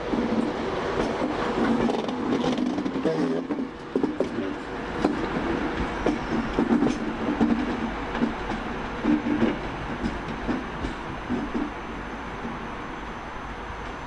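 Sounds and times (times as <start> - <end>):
train humming and rumbling: 0.0 - 14.0.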